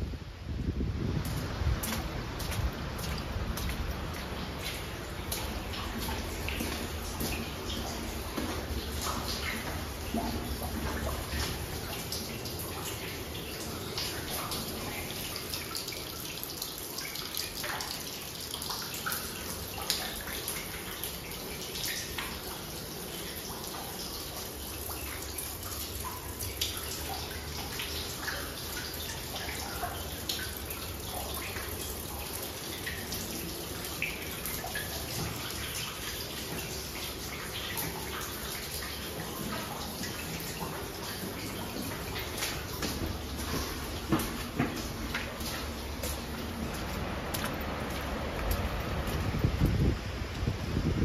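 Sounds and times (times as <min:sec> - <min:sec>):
running water: 0:00.0 - 0:51.0
water dripping: 0:01.2 - 0:50.6.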